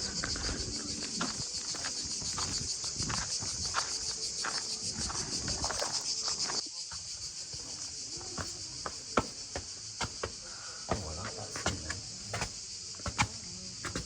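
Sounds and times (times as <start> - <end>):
cicadas chirring: 0.0 - 14.0.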